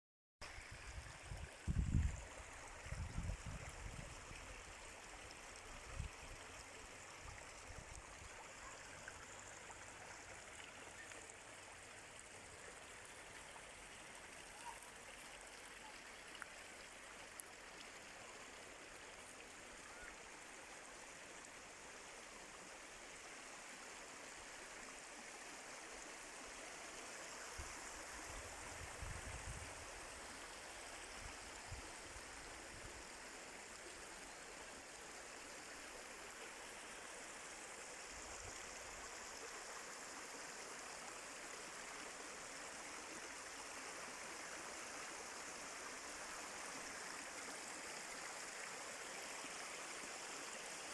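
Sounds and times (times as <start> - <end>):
stream water rushing: 0.5 - 50.9.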